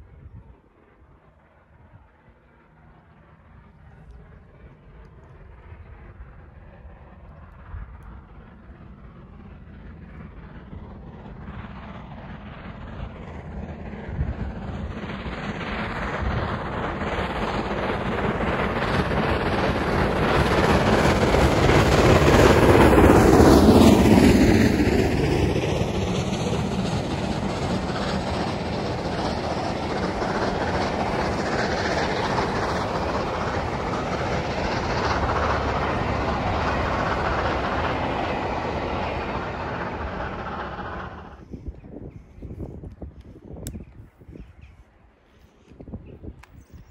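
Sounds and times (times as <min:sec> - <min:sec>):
steam locomotive passing: 0:00.0 - 0:46.9
train wheels rumbling and clattering: 0:04.1 - 0:41.9.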